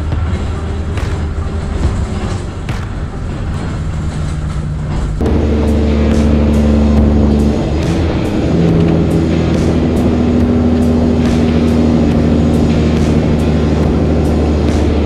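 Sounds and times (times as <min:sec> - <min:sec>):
background music: 0:00.0 - 0:15.0
truck engine running: 0:00.0 - 0:15.0.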